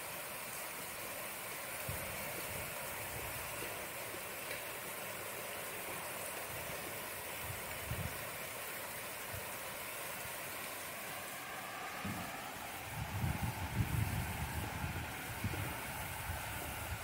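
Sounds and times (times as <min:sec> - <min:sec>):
steady rain hissing: 0:00.0 - 0:17.0.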